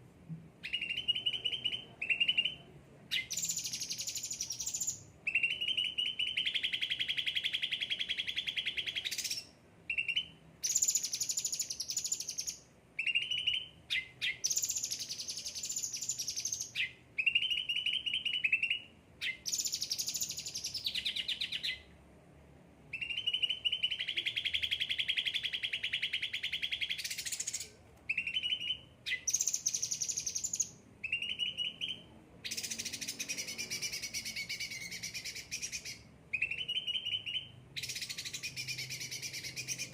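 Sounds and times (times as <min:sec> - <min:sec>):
songbird singing trills: 0:00.6 - 0:21.9, 0:22.9 - 0:39.9.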